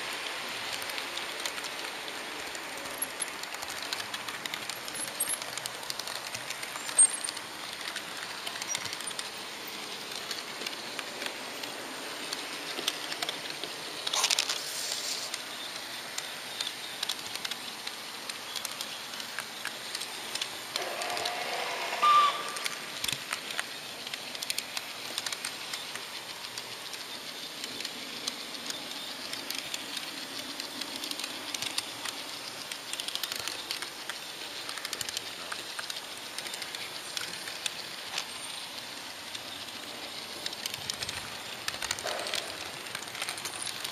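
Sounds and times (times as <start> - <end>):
model train running on track: 0.0 - 43.9
wheels clicking over rails: 0.0 - 43.9.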